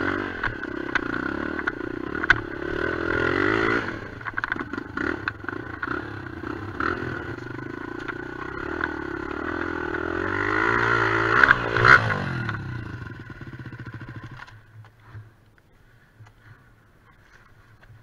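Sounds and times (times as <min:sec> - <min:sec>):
motorcycle engine revving: 0:00.0 - 0:14.7.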